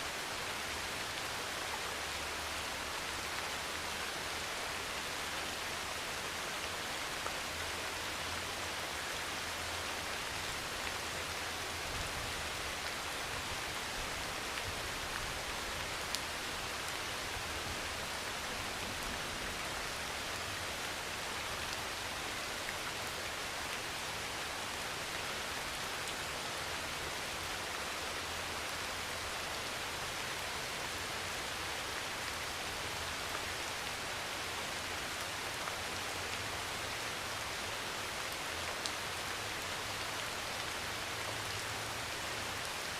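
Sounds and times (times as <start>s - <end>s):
heavy rain on a metal roof: 0.0s - 42.9s.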